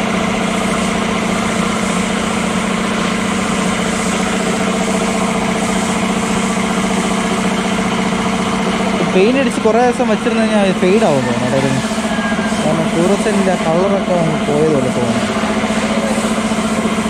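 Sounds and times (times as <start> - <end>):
motor humming steadily: 0.0 - 17.0.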